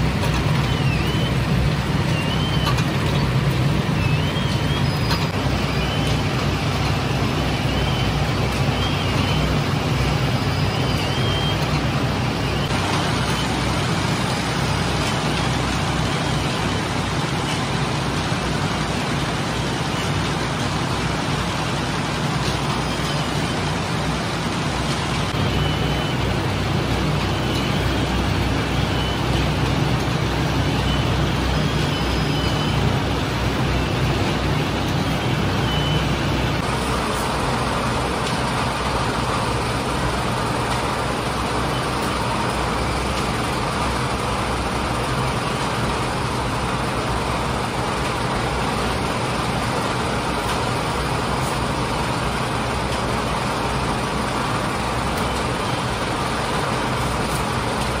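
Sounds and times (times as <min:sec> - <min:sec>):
bakery machinery humming: 0:00.0 - 0:58.0.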